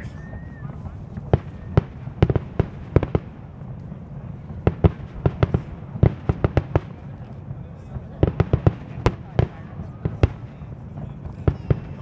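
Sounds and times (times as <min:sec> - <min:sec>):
steady low rumble: 0:00.0 - 0:12.0
fireworks bangs and cracks: 0:00.1 - 0:12.0.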